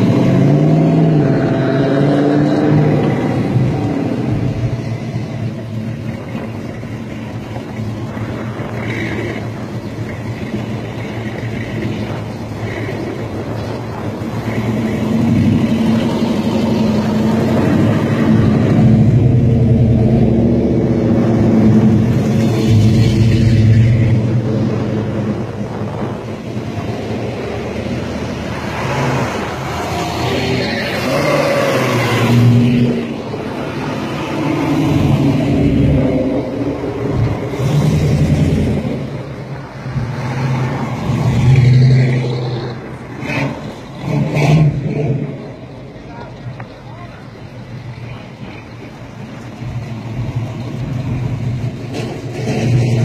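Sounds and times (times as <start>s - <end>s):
car engines pulling away: 0.0s - 53.0s.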